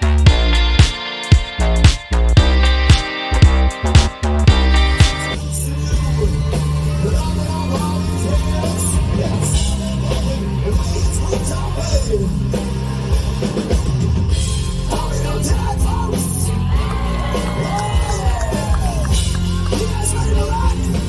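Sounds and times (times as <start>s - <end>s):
rock music: 0.0s - 21.0s.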